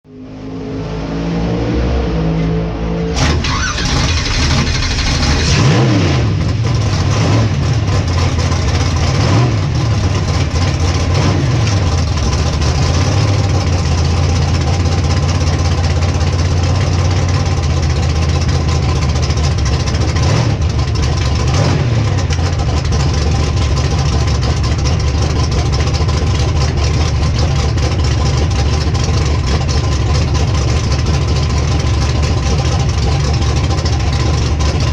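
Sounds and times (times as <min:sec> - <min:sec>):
race car engine idling and revving: 0:00.0 - 0:34.9.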